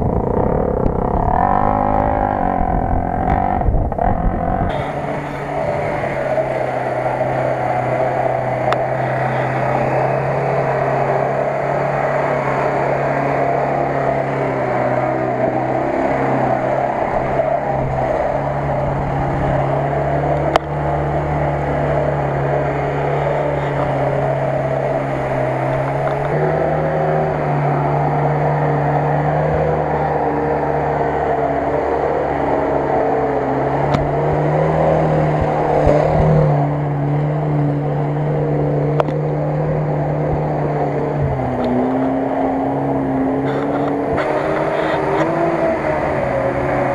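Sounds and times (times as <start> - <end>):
off-road engine under load: 0.0 - 46.9.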